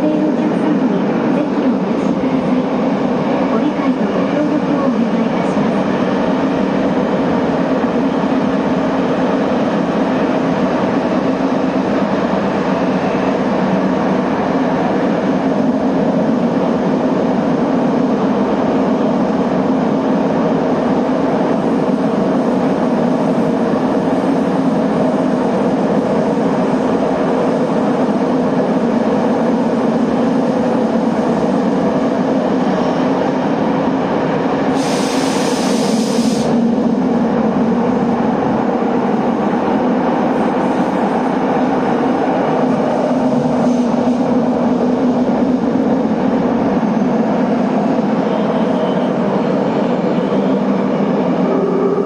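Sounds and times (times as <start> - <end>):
subway train rumbling: 0.0 - 52.0.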